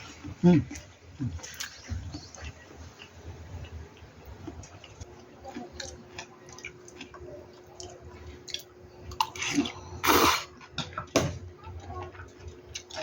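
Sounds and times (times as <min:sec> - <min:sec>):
person chewing food: 0:00.0 - 0:11.1, 0:11.7 - 0:13.0.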